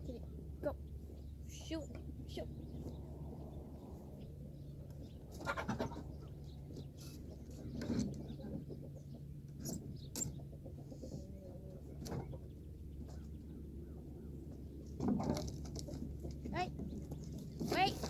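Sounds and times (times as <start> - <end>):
low background hum: 0.0 - 18.0
chickens clucking: 2.7 - 17.5.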